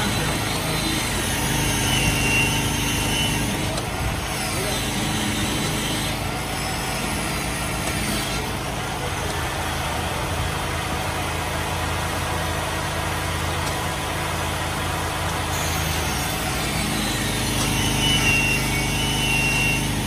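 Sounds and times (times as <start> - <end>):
motor humming: 0.0 - 11.3, 13.6 - 20.0.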